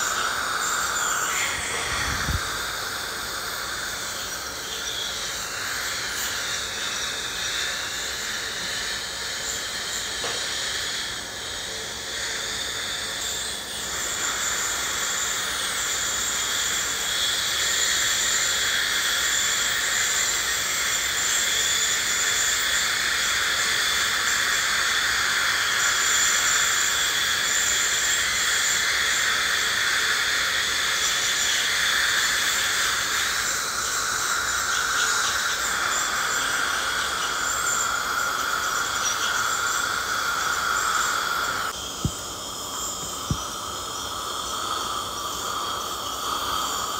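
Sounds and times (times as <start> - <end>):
dental scaler high-pitched whine: 0.0 - 46.9.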